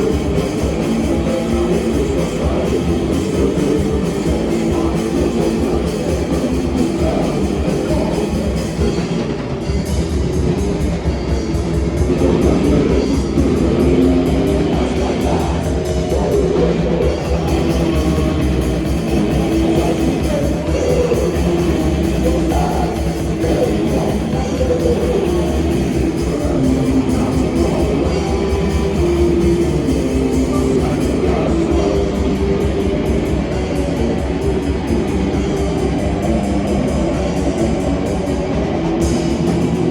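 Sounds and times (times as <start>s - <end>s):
drum kit beating: 0.0s - 39.9s
electric guitars: 0.0s - 39.9s
live rock band playing: 0.0s - 39.9s.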